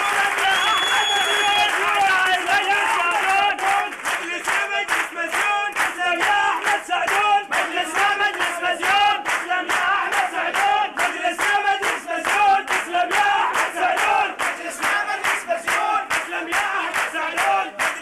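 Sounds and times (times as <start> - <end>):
men chanting in unison: 2.0 - 18.0.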